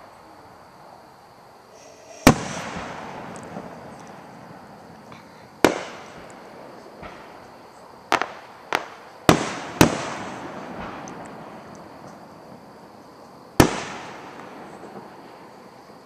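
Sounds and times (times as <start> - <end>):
fireworks bangs echoing: 1.8 - 16.0.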